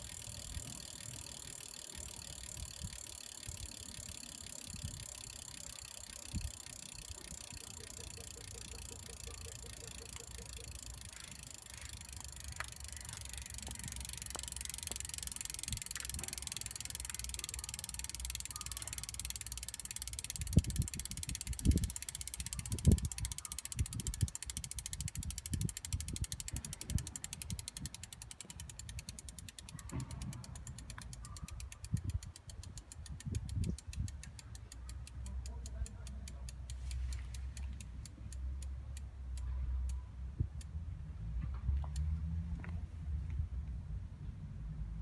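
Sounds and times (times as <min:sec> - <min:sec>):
freehub ratchet ticking: 0:00.0 - 0:42.6.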